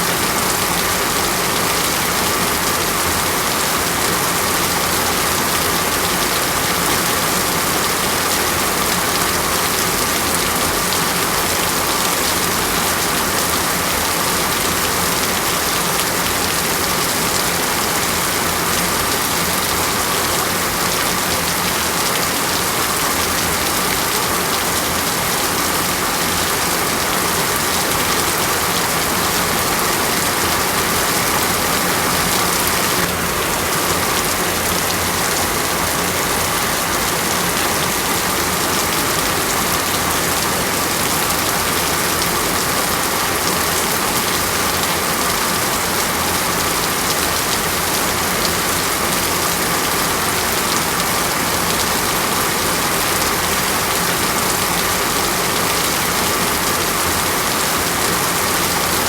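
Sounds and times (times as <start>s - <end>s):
heavy rain pattering: 0.0s - 59.0s.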